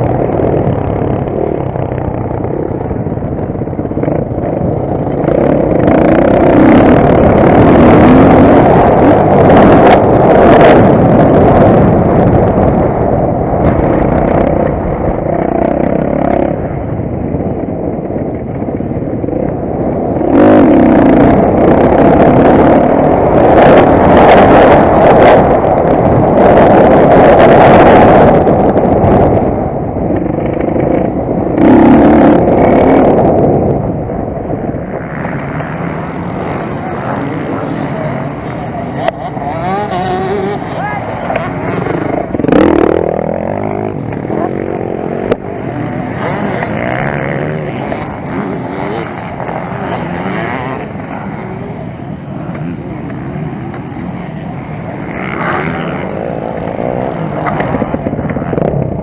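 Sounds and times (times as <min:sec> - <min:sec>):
motocross bike engine racing: 0:00.0 - 0:59.0.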